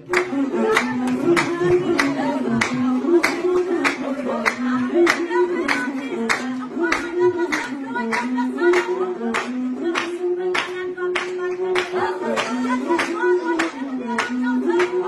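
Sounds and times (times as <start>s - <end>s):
hand-clapping: 0.0s - 15.0s
person singing: 0.0s - 15.0s.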